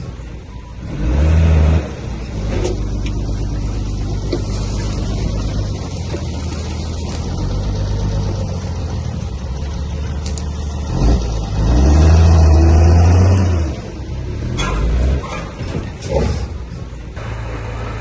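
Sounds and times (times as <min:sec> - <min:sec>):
heavy equipment diesel engine: 0:00.0 - 0:18.0.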